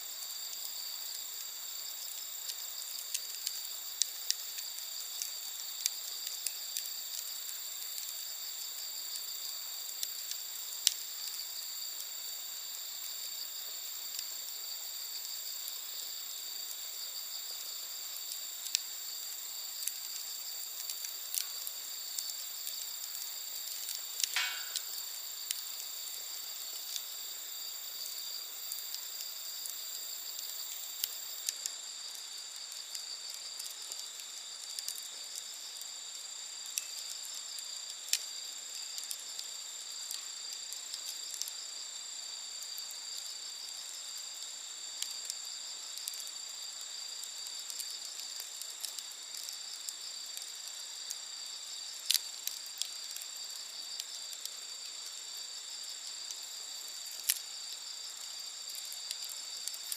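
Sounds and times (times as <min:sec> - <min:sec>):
campfire crackling and popping: 0:00.0 - 0:59.9
night insects singing: 0:00.0 - 0:59.9.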